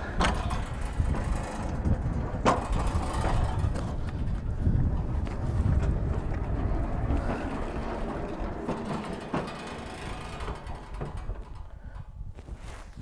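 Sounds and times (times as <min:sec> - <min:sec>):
sawmill carriage rumbling on rails: 0:00.0 - 0:11.8.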